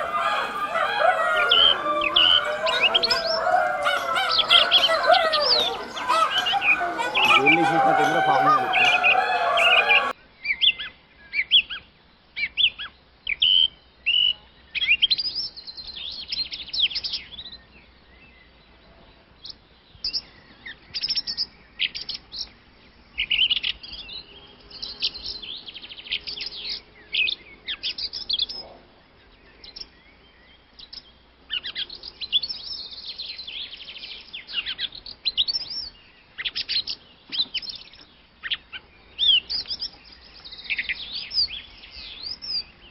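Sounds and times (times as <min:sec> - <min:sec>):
small birds chirping: 0:00.0 - 0:11.6, 0:19.4 - 0:42.9.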